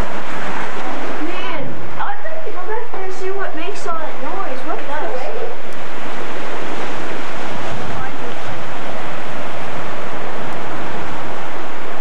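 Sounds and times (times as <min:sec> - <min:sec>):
surf rushing over rocks: 0:00.0 - 0:12.0.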